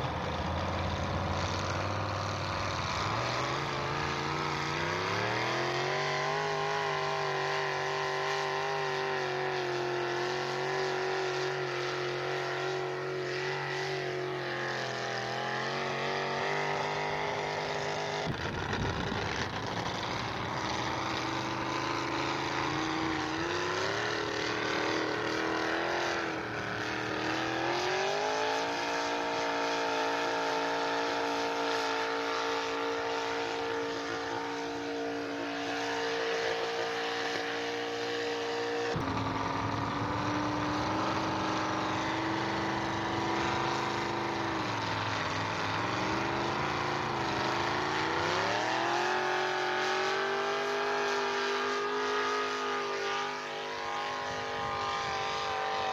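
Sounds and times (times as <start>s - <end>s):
truck engine revving under load: 0.0s - 55.9s.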